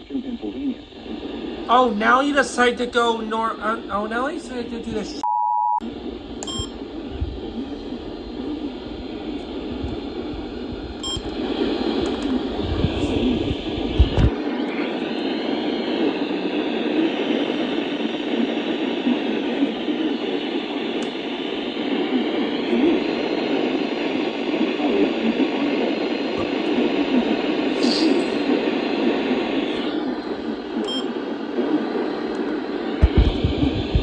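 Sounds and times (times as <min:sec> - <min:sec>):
radio static hiss: 0:00.0 - 0:05.2, 0:05.8 - 0:34.0.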